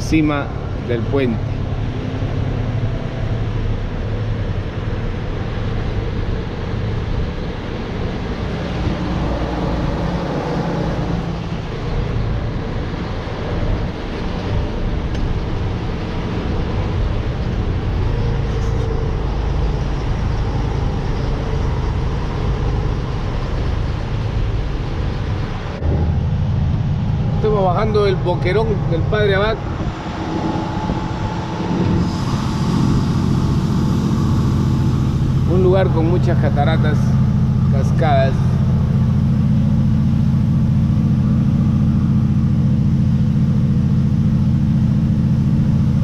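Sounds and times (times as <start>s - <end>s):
deeper engine hum: 0.0s - 46.0s
road and cab noise: 0.0s - 46.0s
truck engine hum: 0.0s - 46.0s.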